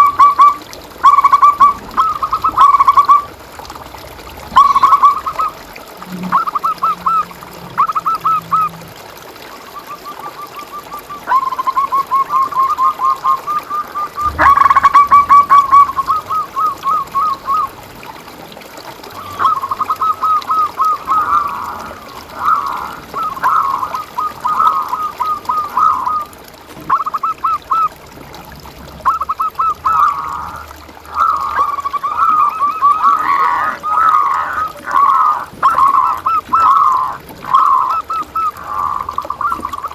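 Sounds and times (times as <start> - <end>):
doves cooing in trilled phrases: 0.0 - 39.9.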